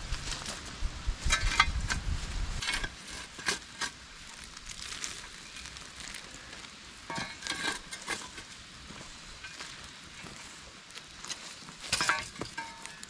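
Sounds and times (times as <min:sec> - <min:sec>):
fire crackling faintly: 0:00.0 - 0:13.0
shovel scraping through coals: 0:00.1 - 0:13.0.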